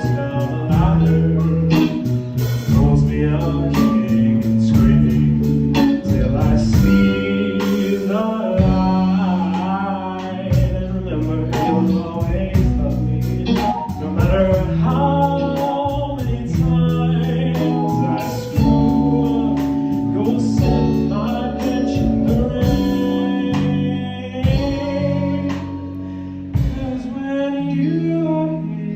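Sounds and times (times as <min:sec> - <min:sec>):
person singing: 0:00.0 - 0:28.9
rock band playing: 0:00.0 - 0:28.9.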